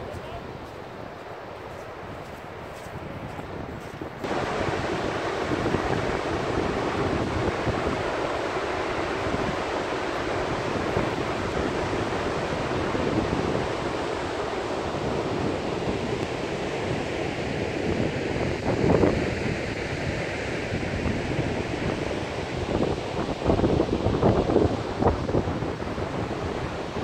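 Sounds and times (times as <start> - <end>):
wind buffeting microphone: 0.0 - 27.0
waterfall roaring: 4.2 - 27.0.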